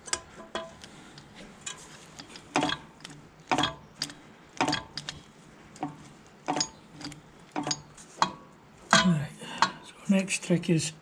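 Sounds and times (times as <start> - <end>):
metal clicks and clanks: 0.0 - 9.8.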